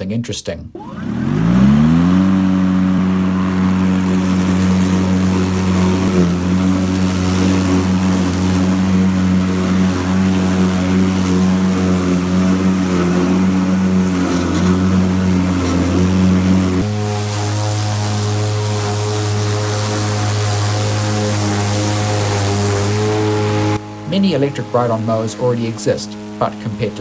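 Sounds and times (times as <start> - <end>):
electric mower drive hum: 0.8 - 27.0.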